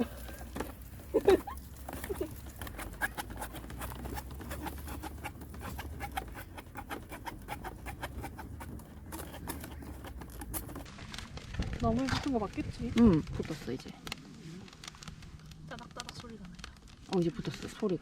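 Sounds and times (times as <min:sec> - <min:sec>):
firewood crackling and snapping: 0:00.0 - 0:18.0.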